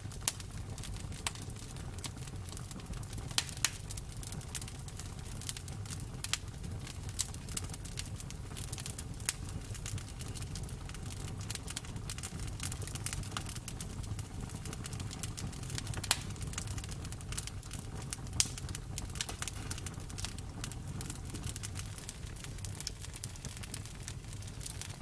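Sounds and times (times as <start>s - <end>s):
campfire crackling: 0.0s - 25.0s
loud fire pops: 0.0s - 25.0s.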